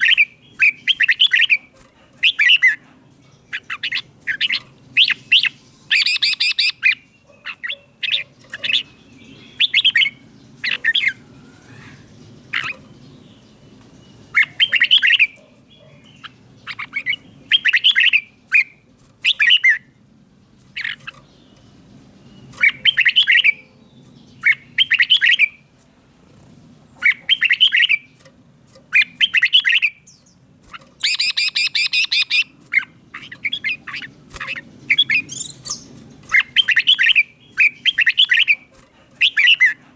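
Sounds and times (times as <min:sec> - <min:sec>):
bulbul warbling song: 0:00.0 - 0:19.9, 0:20.6 - 0:25.7, 0:26.9 - 0:39.8.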